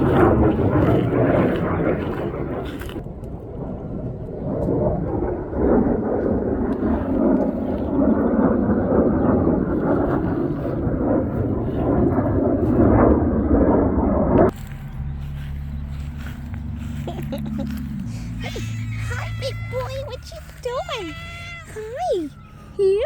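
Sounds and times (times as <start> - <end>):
aircraft engine rumble: 0.0 - 23.0.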